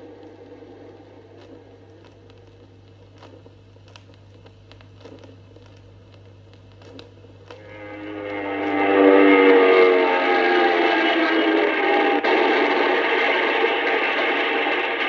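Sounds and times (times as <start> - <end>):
vinyl crackle and clicks: 0.0 - 9.2, 10.4 - 15.0
steady low hum: 0.0 - 15.0.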